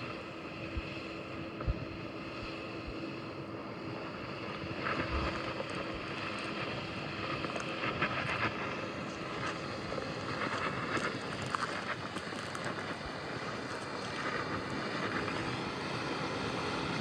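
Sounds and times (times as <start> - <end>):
faint hum: 0.0 - 17.0
vehicle driving on dirt trail: 0.0 - 17.0.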